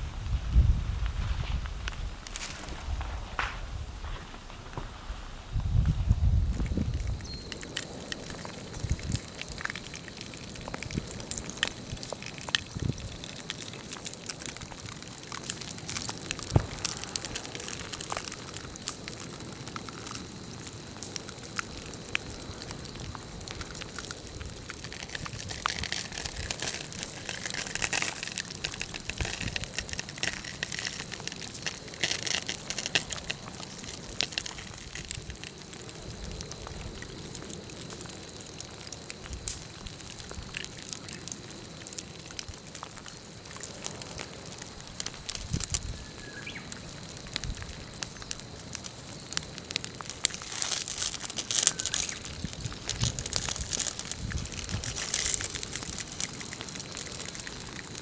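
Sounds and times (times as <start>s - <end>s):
burning brush crackling: 0.0s - 58.0s
lava crust crackling and ticking: 0.0s - 58.0s
steady hiss: 0.0s - 58.0s.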